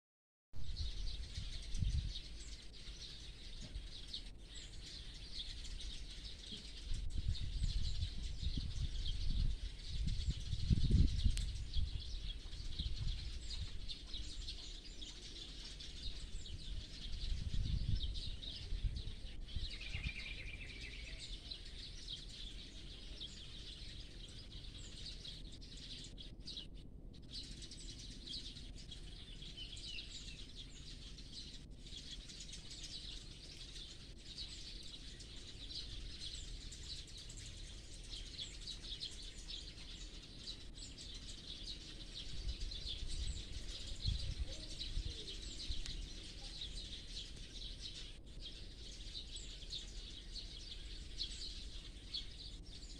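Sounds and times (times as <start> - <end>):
small birds chirping: 0.6 - 52.9.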